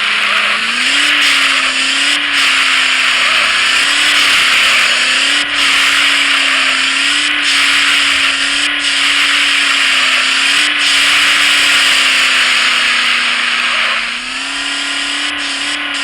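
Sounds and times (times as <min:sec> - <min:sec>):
car engine running under load: 0:00.0 - 0:16.0
tyre and road noise: 0:00.0 - 0:16.0.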